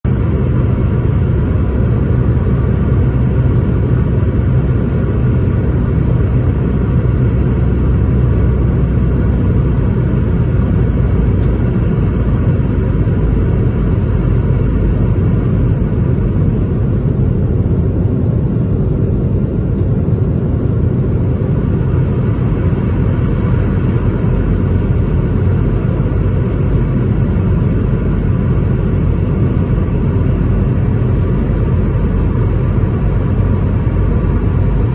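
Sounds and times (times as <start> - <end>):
jet engines rumbling: 0.0 - 34.9.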